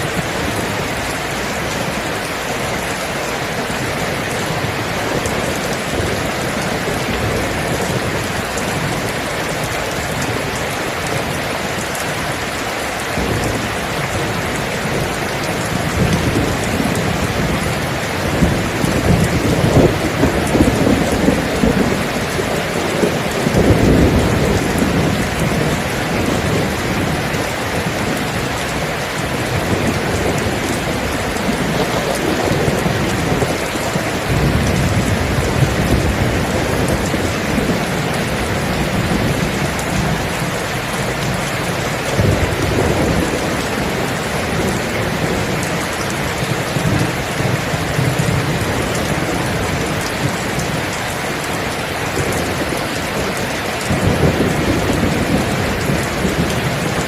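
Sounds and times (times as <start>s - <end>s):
heavy rain: 0.0s - 57.0s
thunder rumbling: 0.0s - 57.0s.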